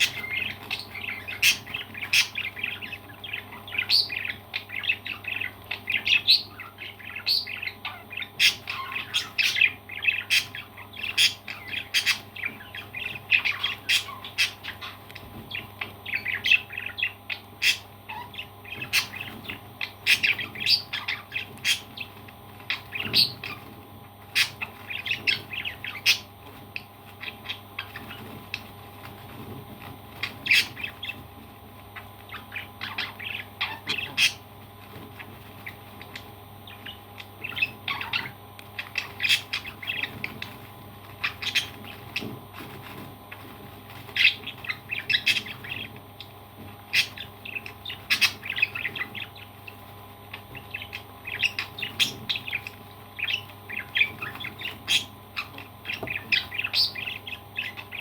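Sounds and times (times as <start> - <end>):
parrots chirping and squawking: 0.0 - 58.0.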